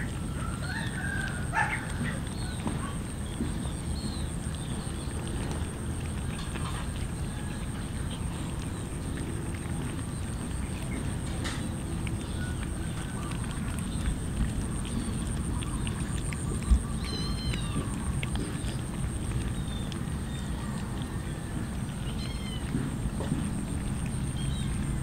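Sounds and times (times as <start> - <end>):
cats eating from metal trays: 0.0 - 25.0
steady low rumble: 0.0 - 25.0.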